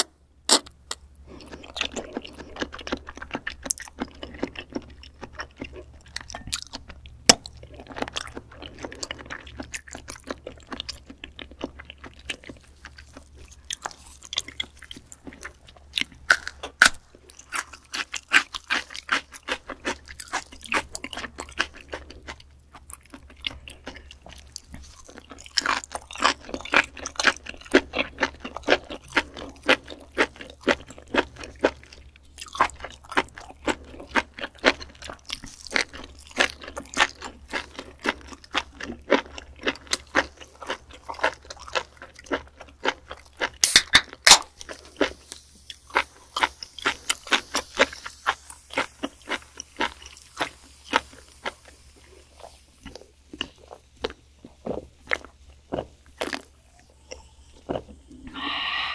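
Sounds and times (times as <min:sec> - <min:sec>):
wet chewing with mouth clicks: 0:00.0 - 0:58.9.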